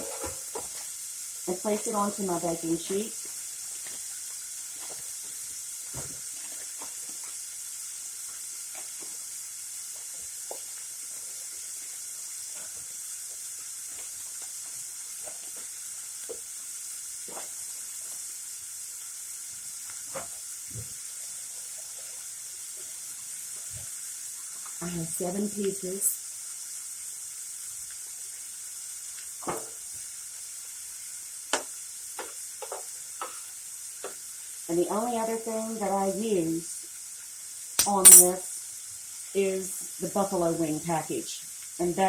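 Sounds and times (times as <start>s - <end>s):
onion sizzling in oil: 0.0s - 42.0s.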